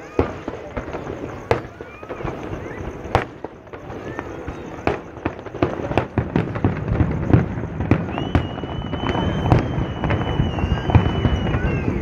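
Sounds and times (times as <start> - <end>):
fireworks bangs and crackles: 0.0 - 12.0
high-pitched firework whistle: 0.0 - 12.0.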